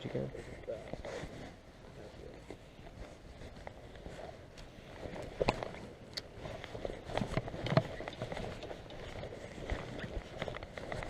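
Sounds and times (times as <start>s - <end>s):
clothes and fishing gear rustling: 0.0s - 11.0s.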